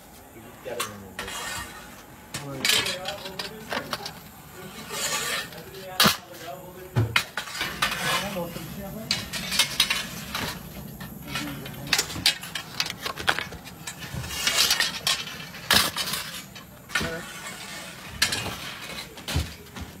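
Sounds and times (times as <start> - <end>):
metal rods clinking on ovens: 2.3 - 19.7.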